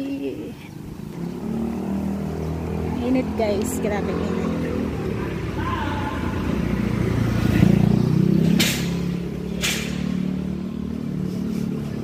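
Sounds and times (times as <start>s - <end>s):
motorcycle engine passing: 0.8s - 12.0s.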